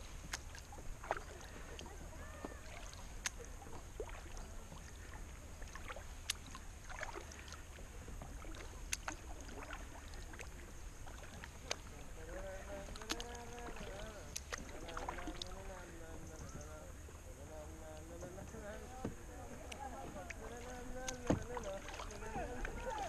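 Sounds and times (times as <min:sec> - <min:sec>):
paddle splashing in water: 0:00.0 - 0:23.0
water trickling off paddle: 0:00.0 - 0:23.0.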